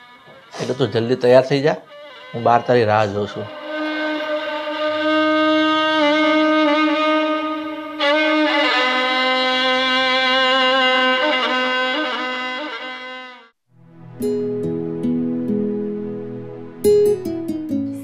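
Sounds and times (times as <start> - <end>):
slow violin melody: 0.0 - 18.0.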